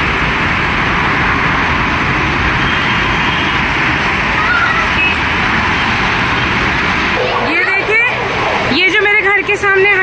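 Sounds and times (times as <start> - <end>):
heavy road traffic: 0.0 - 10.0.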